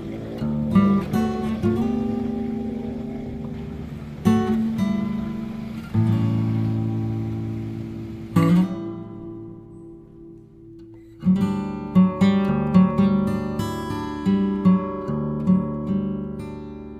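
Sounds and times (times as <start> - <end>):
acoustic guitar strumming: 0.0 - 16.9.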